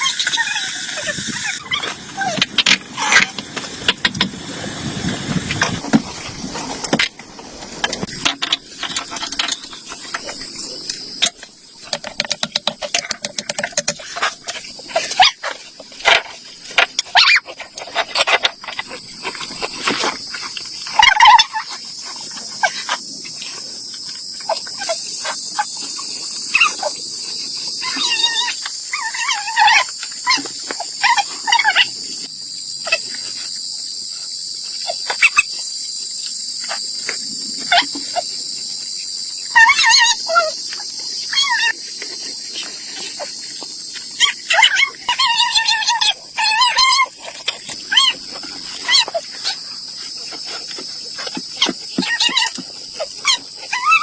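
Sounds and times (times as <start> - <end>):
insects trilling chorus: 0.0 - 54.0.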